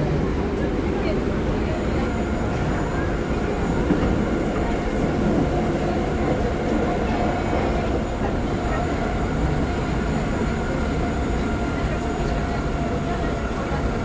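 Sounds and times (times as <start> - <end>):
subway car rumble: 0.0 - 14.0.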